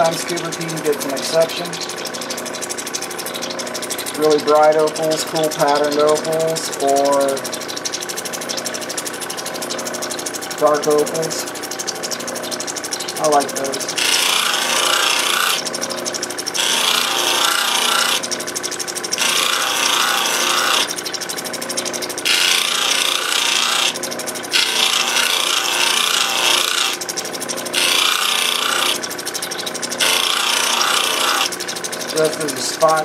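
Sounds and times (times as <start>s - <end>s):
machine motor humming: 0.0s - 33.0s
stone grinding on polishing wheel: 0.0s - 33.0s.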